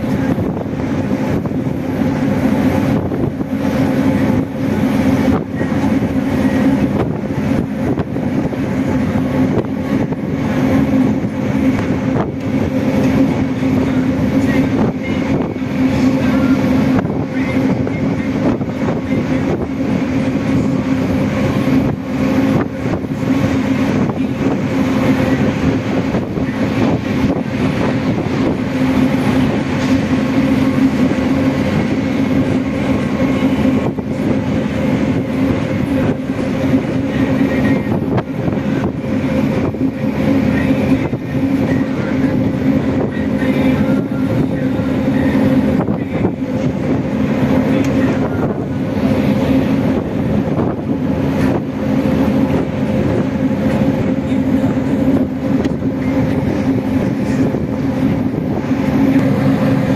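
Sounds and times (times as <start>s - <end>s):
rushing noise: 0.0s - 59.9s
ship diesel engine drone: 0.0s - 59.9s.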